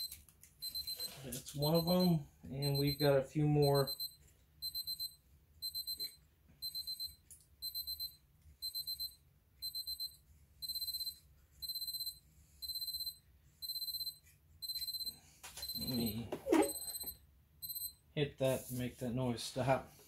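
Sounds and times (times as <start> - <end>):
timer beeping: 0.0 - 18.0.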